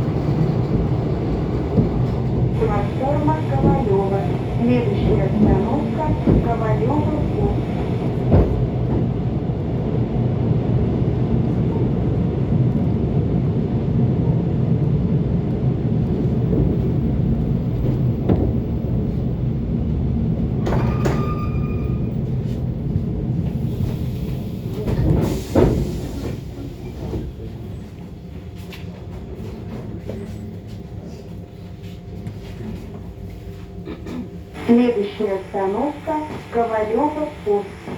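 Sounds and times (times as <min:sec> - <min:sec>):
electric train hum: 0:00.0 - 0:37.9.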